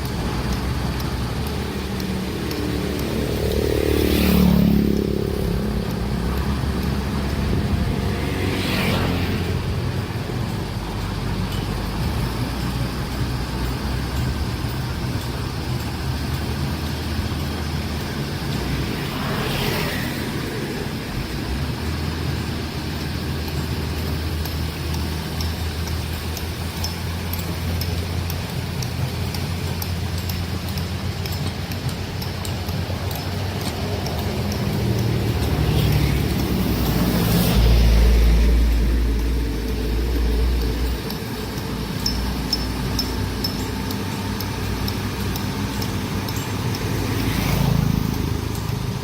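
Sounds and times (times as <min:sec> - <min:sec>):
vehicle passing by: 0:00.0 - 0:24.3, 0:32.0 - 0:49.0
diesel engines rumbling: 0:00.0 - 0:49.0.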